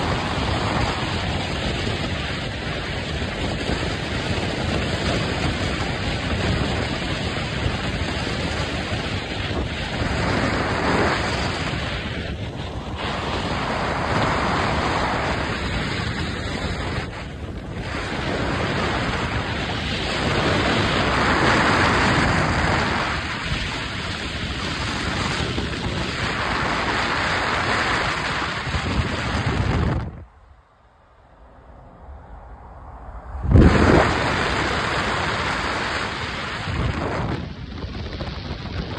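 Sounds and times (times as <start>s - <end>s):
car wind and road rush: 0.0s - 38.9s.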